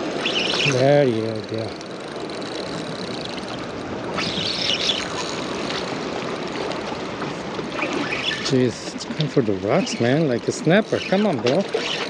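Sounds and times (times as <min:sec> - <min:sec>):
water lapping at shore: 0:00.0 - 0:12.0
wind: 0:00.0 - 0:12.0.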